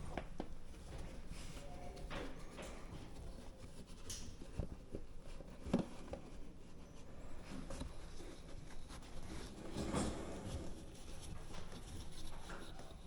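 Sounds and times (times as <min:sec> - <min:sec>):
faint handling noise: 0:00.0 - 0:13.0.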